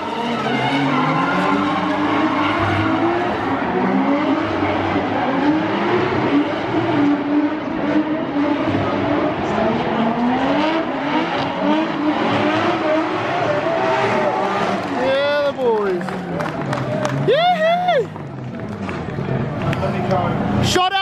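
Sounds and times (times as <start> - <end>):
car engines revving hard: 0.0 - 20.8.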